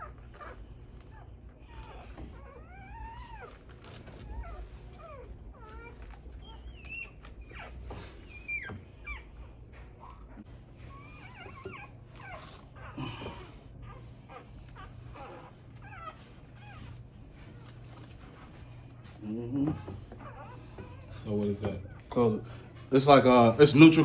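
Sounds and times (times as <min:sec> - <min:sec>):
puppies squeaking and whimpering: 0:00.0 - 0:24.0
steady low hum: 0:00.0 - 0:24.0.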